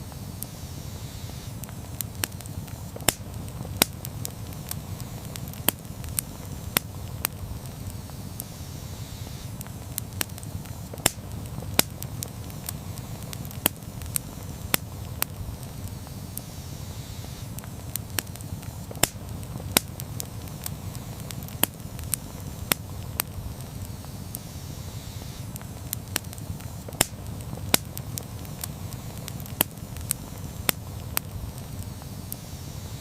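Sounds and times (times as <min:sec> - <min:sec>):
campfire crackles and pops: 0:00.0 - 0:33.0
low rumble of flame: 0:00.0 - 0:33.0.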